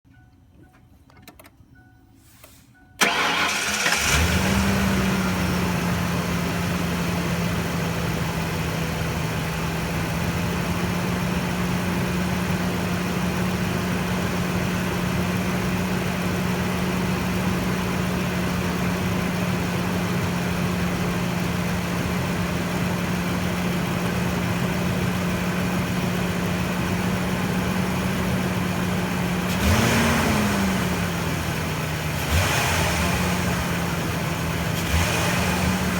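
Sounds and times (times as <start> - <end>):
car engine starting and idling: 0.1 - 35.9.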